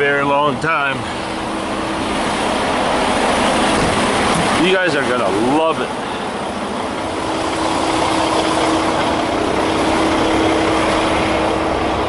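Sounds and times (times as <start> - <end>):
heavy truck engine idling: 0.0 - 12.0.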